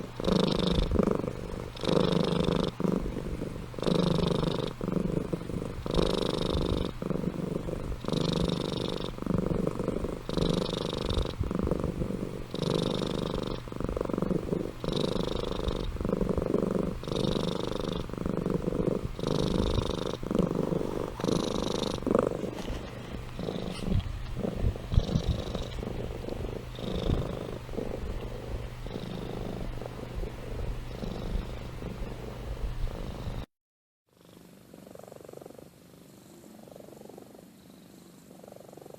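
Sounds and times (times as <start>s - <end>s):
cat purring: 0.0s - 33.5s, 34.2s - 38.9s.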